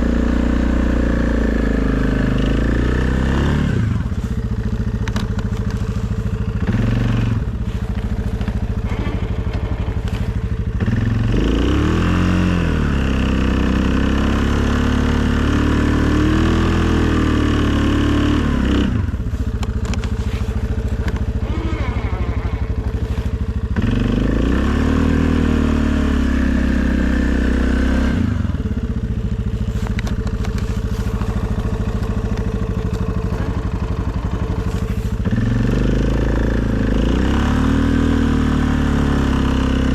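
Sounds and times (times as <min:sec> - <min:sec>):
atv engine idling and revving: 0:00.0 - 0:39.9.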